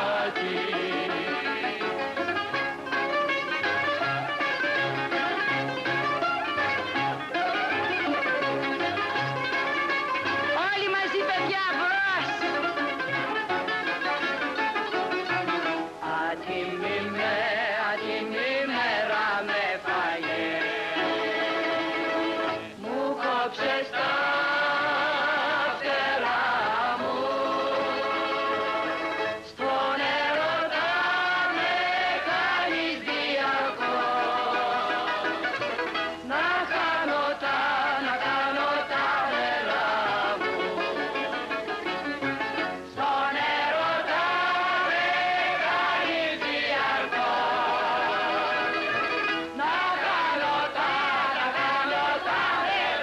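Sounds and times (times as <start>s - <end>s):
bouzouki ensemble playing slow dance: 0.0s - 53.0s.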